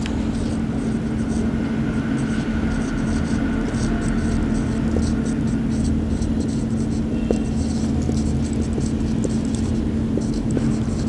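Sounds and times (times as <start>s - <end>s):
low background hum: 0.0s - 11.0s
marker writing on whiteboard: 0.0s - 11.0s.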